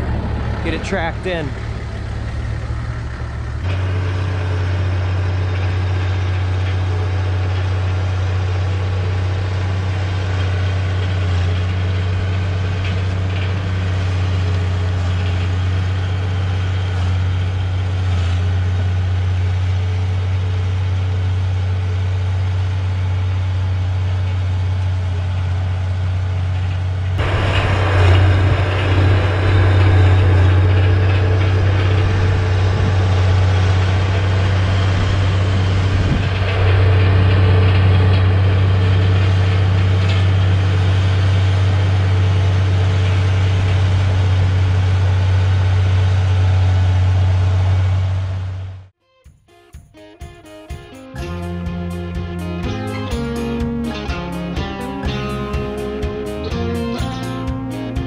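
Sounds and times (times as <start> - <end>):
bulldozer diesel engine droning: 0.0 - 48.9, 51.2 - 58.0.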